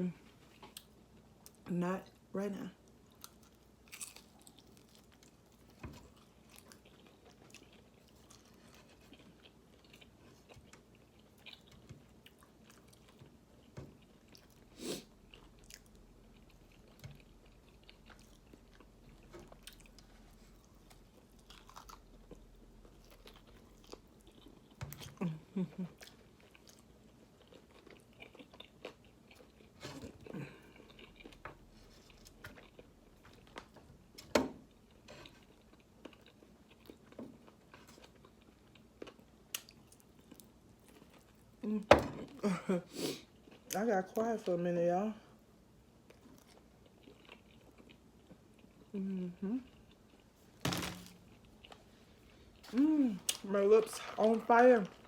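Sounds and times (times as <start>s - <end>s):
person chewing food: 2.8s - 41.6s, 46.0s - 55.0s.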